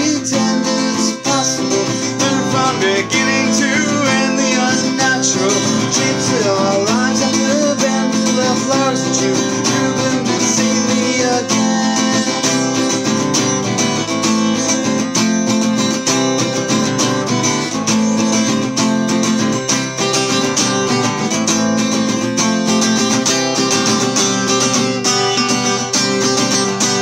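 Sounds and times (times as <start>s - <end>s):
guitar chords strummed: 0.0s - 27.0s.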